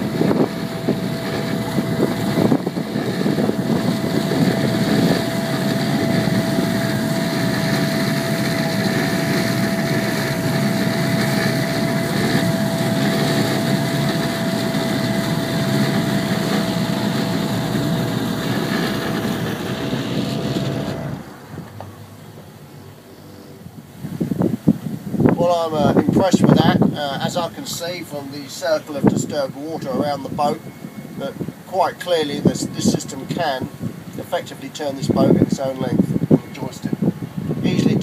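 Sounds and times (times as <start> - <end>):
churning propeller wash: 0.0 - 22.7, 23.6 - 38.0
high whine: 0.0 - 38.0
outboard engines running: 0.0 - 38.0.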